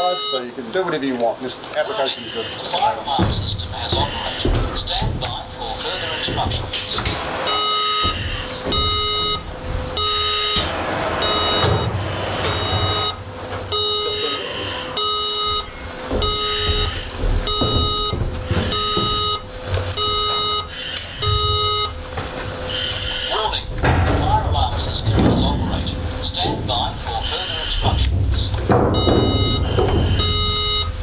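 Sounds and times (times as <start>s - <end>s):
fire alarm pulsing tone: 0.0s - 31.0s.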